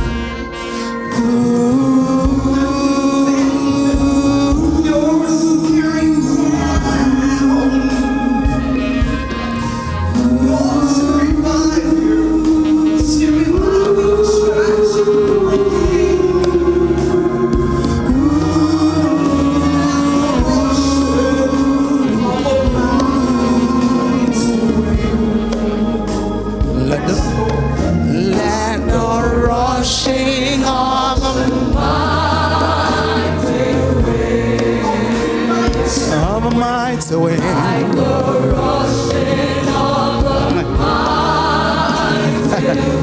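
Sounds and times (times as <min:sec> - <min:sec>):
band with bass and drums: 0:00.0 - 0:43.0
person singing gospel song: 0:00.0 - 0:43.0.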